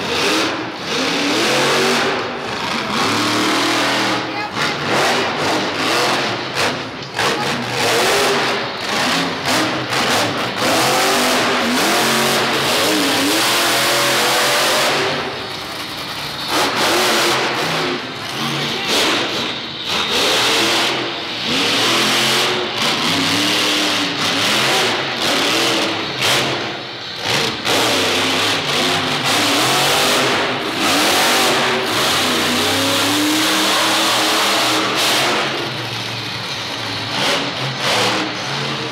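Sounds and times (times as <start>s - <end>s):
monster truck engine revving: 0.0s - 38.9s.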